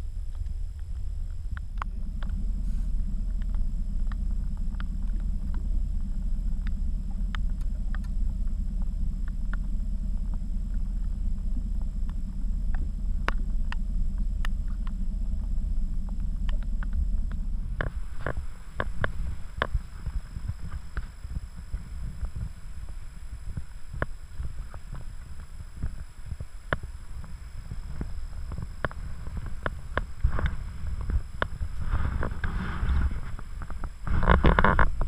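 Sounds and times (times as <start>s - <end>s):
boat low rumble: 0.0s - 35.0s
sharp ticks: 3.2s - 35.0s.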